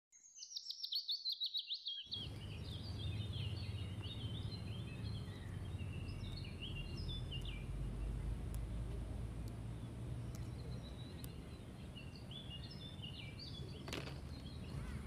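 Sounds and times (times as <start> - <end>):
scattered bird chirps: 0.1 - 8.6, 9.6 - 15.0
birdsong with descending notes: 0.1 - 15.0
low outdoor rumble: 2.1 - 15.0.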